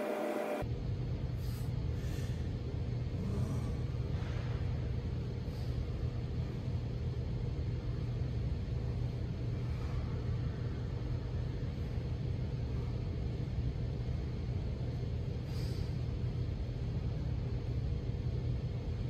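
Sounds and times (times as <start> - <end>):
low background rumble: 0.6 - 19.0.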